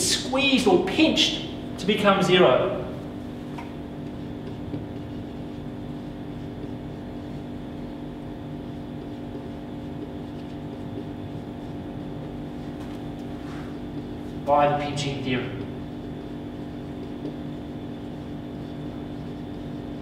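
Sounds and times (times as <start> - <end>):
low room hum: 0.0 - 20.0
marker scratching on whiteboard: 3.0 - 20.0.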